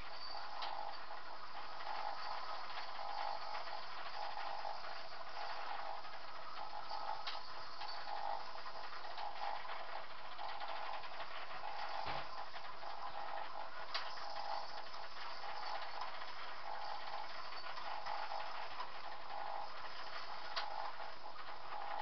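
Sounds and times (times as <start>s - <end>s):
model train mechanical whirr: 0.0s - 22.0s
faint clicks: 1.6s - 22.0s.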